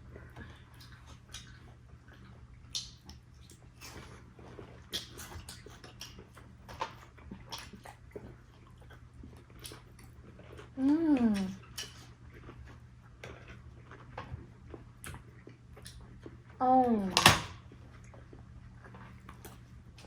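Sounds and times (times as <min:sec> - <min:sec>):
chewing and mouth noises: 0:00.0 - 0:16.6, 0:17.6 - 0:20.0.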